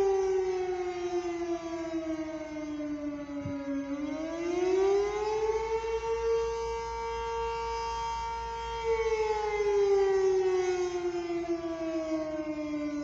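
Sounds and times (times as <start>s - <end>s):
tornado siren wailing: 0.0s - 13.0s.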